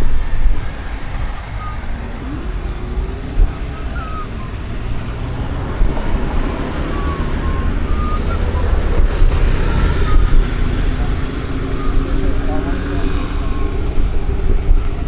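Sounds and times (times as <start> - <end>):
low traffic rumble: 0.0 - 15.0
passing vehicles: 0.0 - 15.0.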